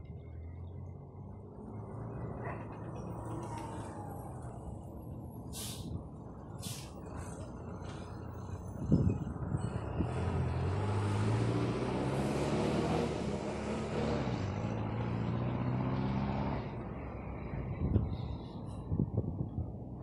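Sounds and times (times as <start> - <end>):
bus driving past: 0.0 - 20.0.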